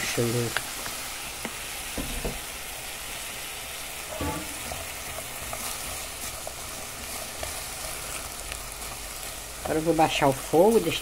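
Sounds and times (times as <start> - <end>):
okra sizzling in a pan: 0.0 - 11.0.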